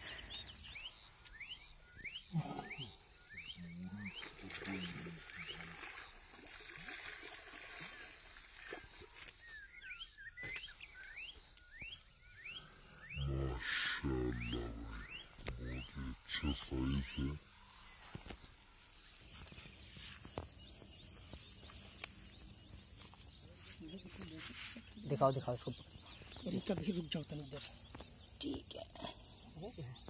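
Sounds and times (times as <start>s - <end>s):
bird chirping: 0.0s - 5.7s, 9.4s - 18.2s, 19.2s - 30.0s.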